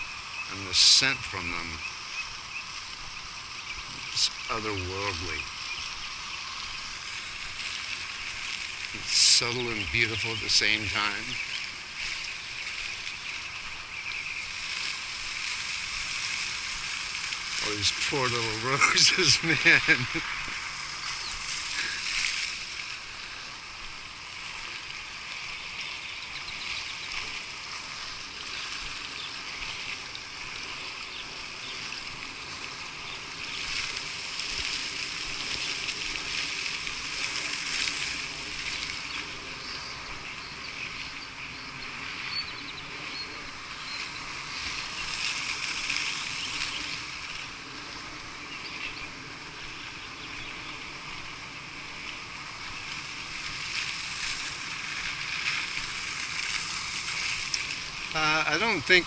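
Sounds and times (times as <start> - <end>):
fountain water splashing: 0.0 - 59.0.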